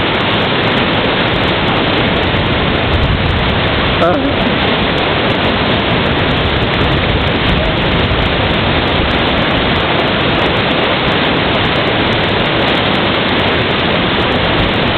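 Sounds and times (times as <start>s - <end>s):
river rapids rushing: 0.0s - 14.9s.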